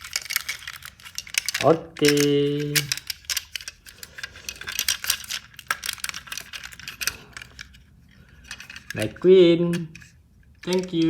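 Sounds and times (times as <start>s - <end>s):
plastic toy parts clicking: 0.0s - 11.0s.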